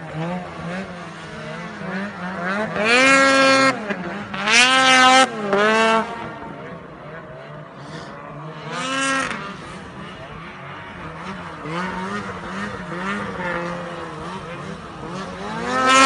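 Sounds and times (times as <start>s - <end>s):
snowmobile engines revving: 0.0s - 16.0s.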